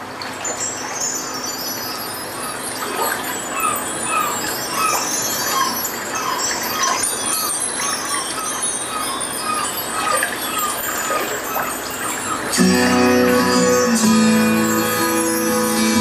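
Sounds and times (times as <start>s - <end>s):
bar chimes shimmering: 0.0s - 16.0s
short chirping glides: 0.0s - 16.0s.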